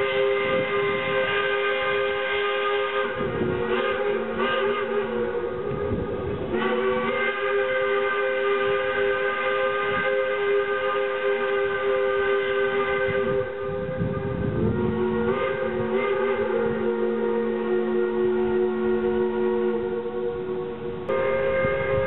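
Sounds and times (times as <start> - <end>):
steam exhaust chuffing: 0.0 - 22.0
steam locomotive whistle: 0.0 - 22.0.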